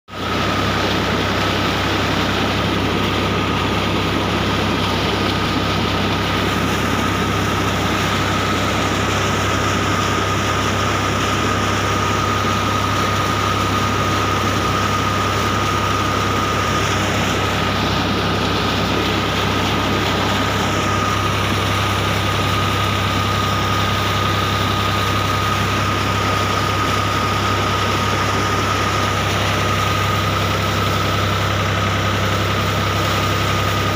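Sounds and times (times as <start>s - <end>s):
steady high whine: 0.1s - 33.9s
tractor diesel engine running: 0.1s - 33.9s
water gushing from pump: 0.1s - 33.9s.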